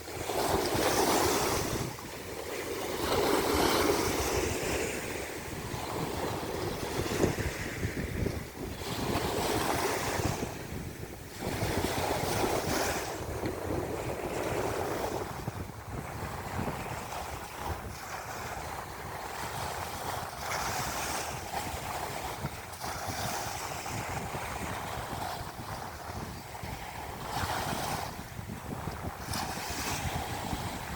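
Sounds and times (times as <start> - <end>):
sea waves breaking: 0.0 - 30.9
wind rumbling on microphone: 0.0 - 30.9.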